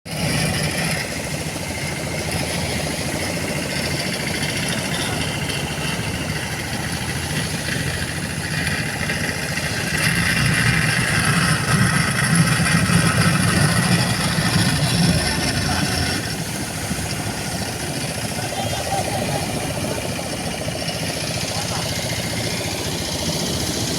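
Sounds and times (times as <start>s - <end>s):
motorboat engine running: 0.1s - 23.9s.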